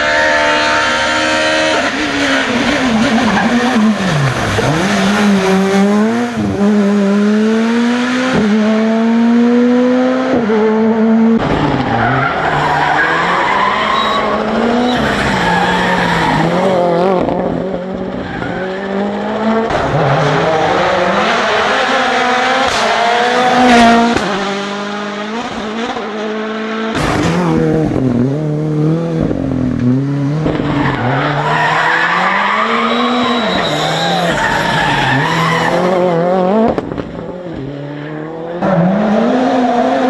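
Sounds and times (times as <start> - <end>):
rally car engines revving: 0.0 - 40.0.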